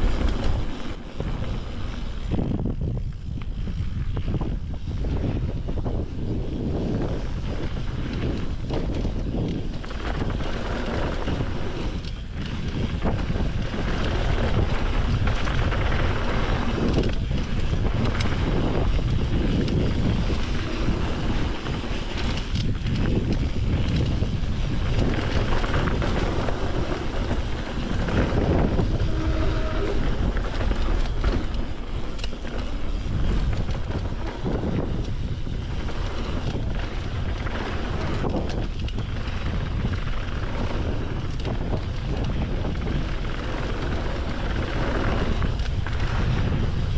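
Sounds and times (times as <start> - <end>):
bike tyres rumbling: 0.0 - 46.9
wind rushing over microphone: 0.0 - 46.9.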